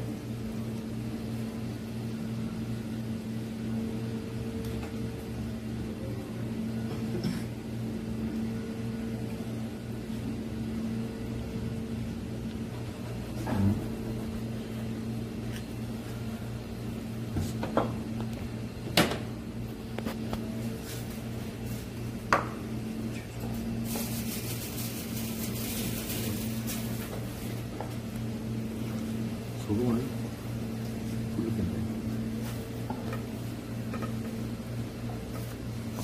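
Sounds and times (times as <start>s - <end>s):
kitchen machinery humming: 0.0s - 36.0s.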